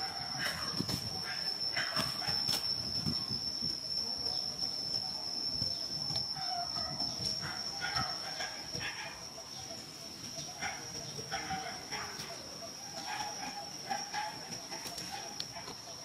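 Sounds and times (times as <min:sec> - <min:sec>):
high-pitched whine: 0:00.0 - 0:16.0.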